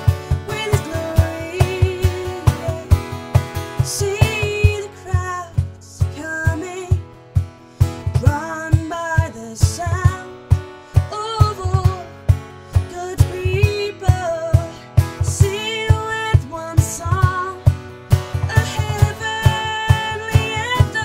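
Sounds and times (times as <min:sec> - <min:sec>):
acoustic worship song: 0:00.0 - 0:21.0.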